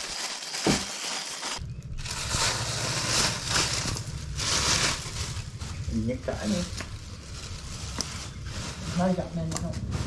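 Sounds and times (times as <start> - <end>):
plastic bag crinkling: 0.0 - 10.0
steady low hum: 1.6 - 10.0.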